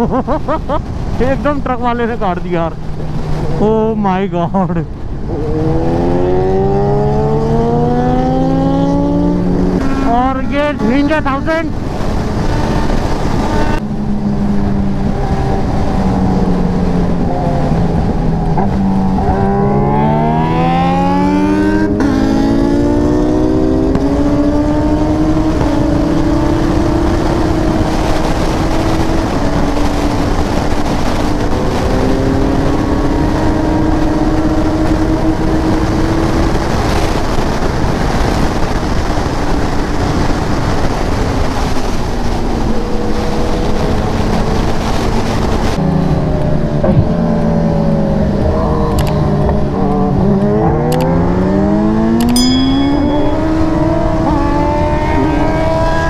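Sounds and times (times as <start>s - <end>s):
wind rush: 0.0s - 56.0s
motorcycle engine revving: 5.3s - 56.0s.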